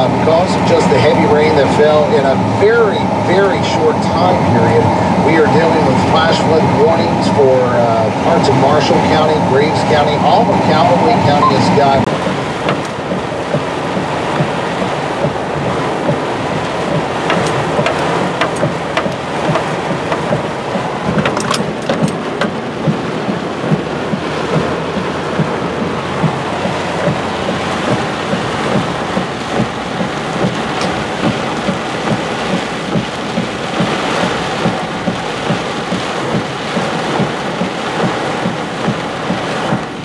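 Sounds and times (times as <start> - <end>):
heavy rain on vehicle roof: 0.0 - 40.0.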